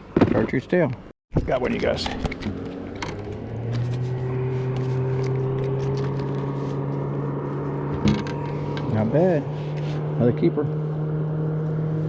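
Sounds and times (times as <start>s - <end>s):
boat motor humming: 1.8s - 12.0s.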